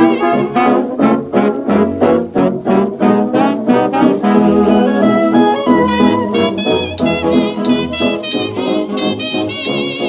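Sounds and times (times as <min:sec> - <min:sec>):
instrumental music with held chords: 0:00.0 - 0:10.0.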